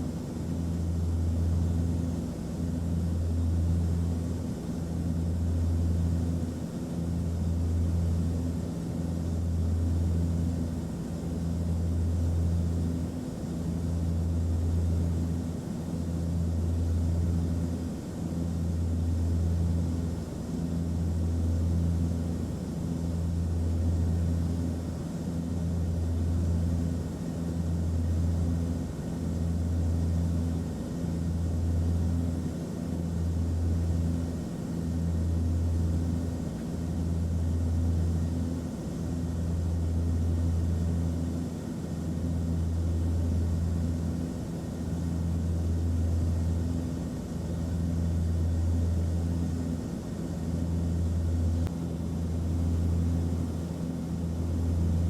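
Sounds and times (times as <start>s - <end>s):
low pulsing hum: 0.0s - 55.0s.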